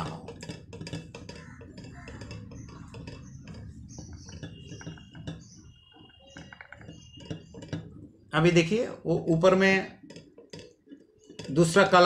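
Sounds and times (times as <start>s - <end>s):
stirring rod tapping glass beaker: 0.0s - 12.0s.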